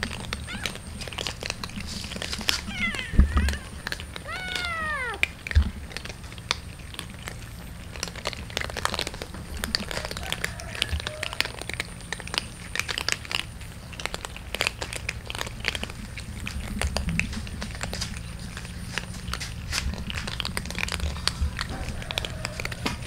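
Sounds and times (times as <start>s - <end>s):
cats crunching dry kibble: 0.0s - 23.0s.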